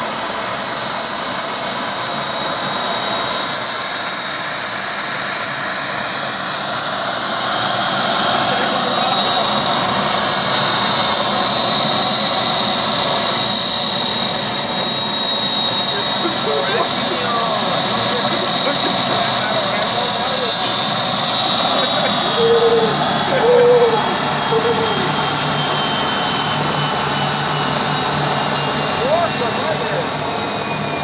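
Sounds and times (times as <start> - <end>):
jet engine roar: 0.0 - 31.0
turbine whine: 0.0 - 31.0.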